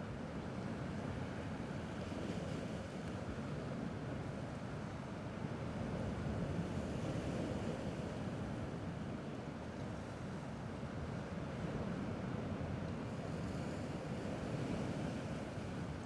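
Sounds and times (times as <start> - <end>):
gentle sea waves: 0.0 - 16.0.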